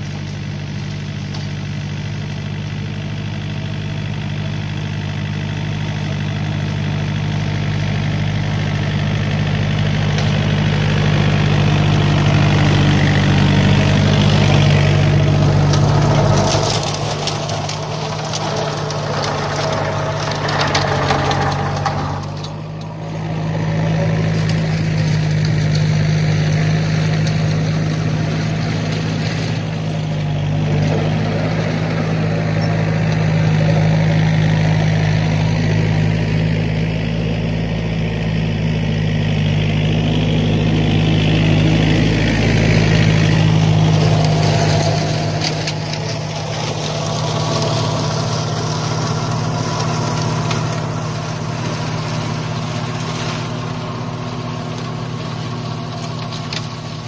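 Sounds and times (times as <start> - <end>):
tractor diesel engine drone: 0.0 - 57.0.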